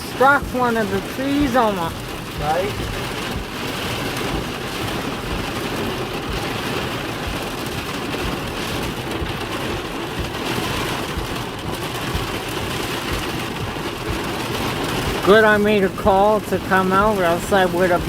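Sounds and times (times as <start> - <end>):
rain and hail on car roof: 0.0 - 18.0.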